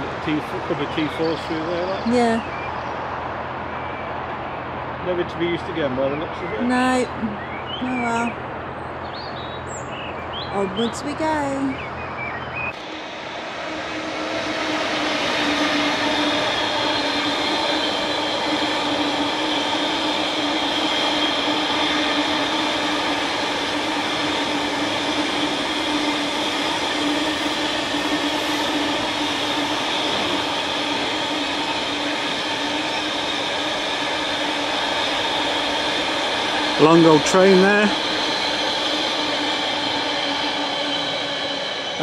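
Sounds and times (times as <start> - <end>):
train passing on rails: 0.0 - 42.0.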